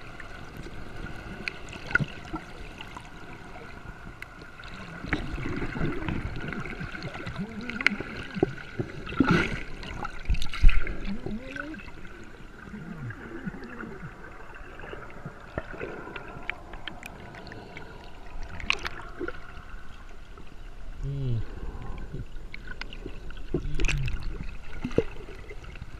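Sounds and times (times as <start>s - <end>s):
water gurgling and splashing: 0.0s - 25.9s.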